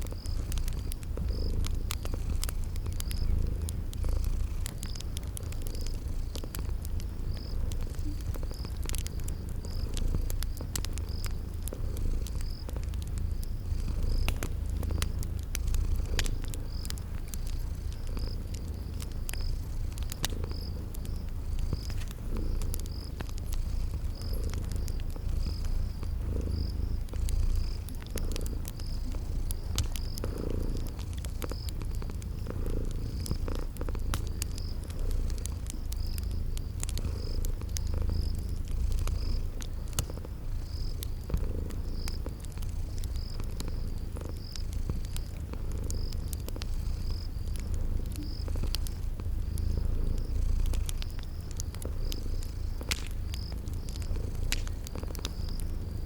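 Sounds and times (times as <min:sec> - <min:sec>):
cat purring: 0:00.0 - 0:56.0
crickets chirping: 0:00.0 - 0:56.0
fire crackling: 0:00.0 - 0:56.0.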